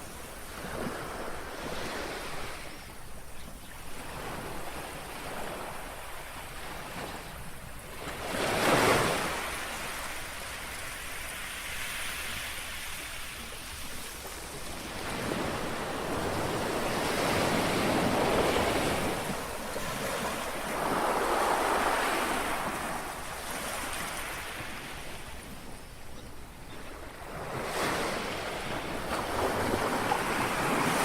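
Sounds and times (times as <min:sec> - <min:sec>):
small waves lapping on shore: 0:00.0 - 0:31.0.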